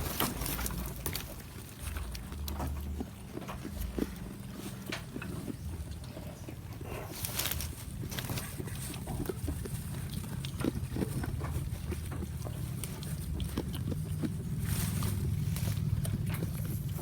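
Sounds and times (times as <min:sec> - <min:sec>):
goat chewing crunchy food: 0:00.0 - 0:17.0.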